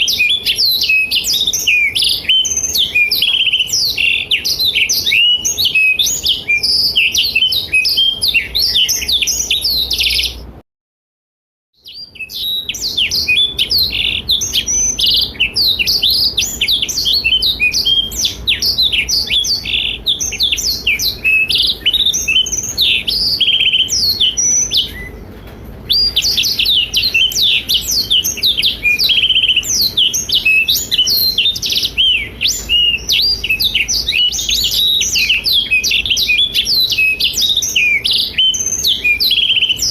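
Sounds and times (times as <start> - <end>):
canary singing trilled notes: 0.0 - 10.5, 11.8 - 25.2, 25.9 - 39.9.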